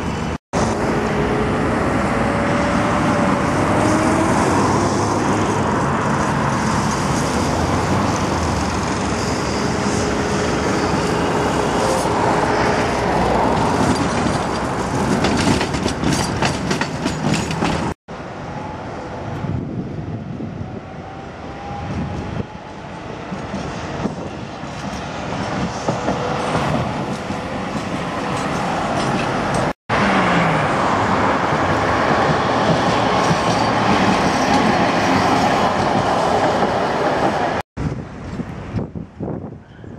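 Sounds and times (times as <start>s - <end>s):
tram wheels rumbling on rails: 0.0s - 39.8s
road traffic: 0.0s - 39.9s.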